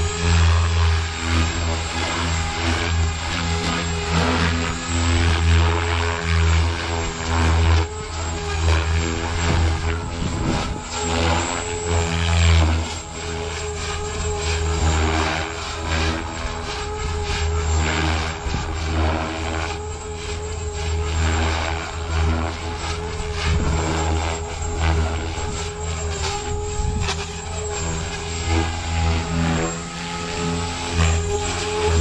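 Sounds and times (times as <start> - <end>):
rc helicopter motor whine: 0.0 - 32.0
rotor blades whooshing: 0.0 - 32.0.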